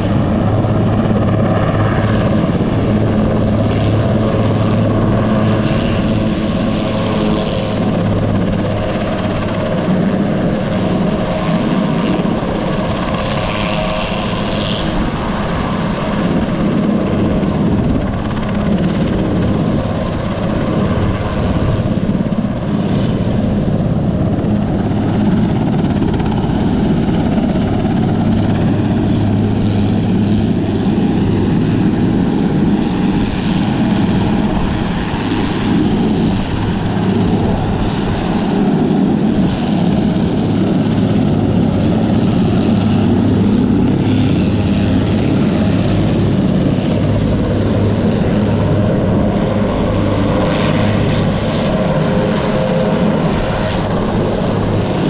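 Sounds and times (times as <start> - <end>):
helicopter engines and rotor drone: 0.0 - 55.0.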